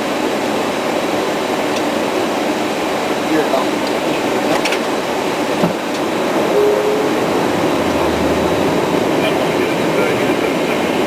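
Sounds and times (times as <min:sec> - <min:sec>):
airflow over airframe: 0:00.0 - 0:11.0
jet engines: 0:00.0 - 0:11.0.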